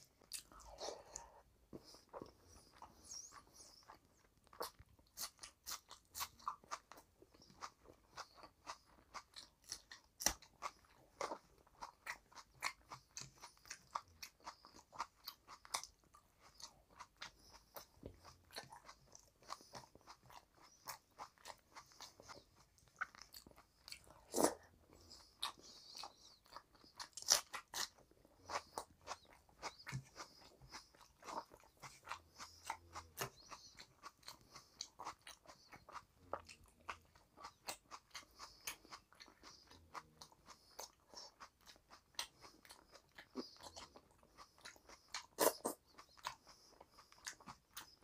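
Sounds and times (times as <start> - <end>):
wet chewing mouth sounds: 0.0 - 48.0.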